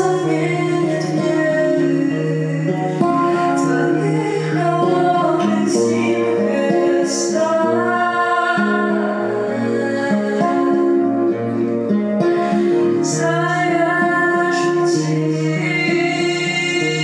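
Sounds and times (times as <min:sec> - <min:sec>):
acoustic guitar: 0:00.0 - 0:17.0
woman singing: 0:00.0 - 0:17.0.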